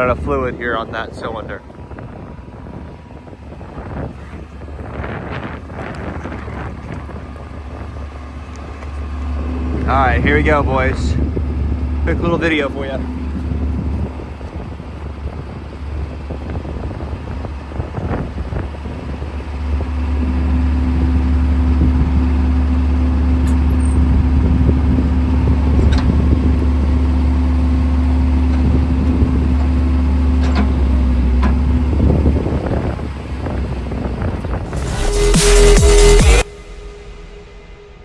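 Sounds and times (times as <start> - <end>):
excavator diesel engine: 0.0 - 38.0
high hum: 0.0 - 38.0.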